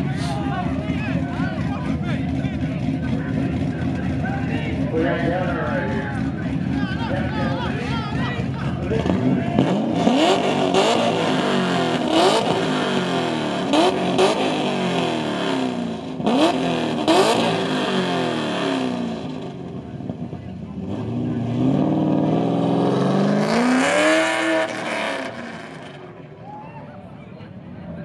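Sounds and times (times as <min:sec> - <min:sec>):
car engine revving: 0:00.0 - 0:26.3.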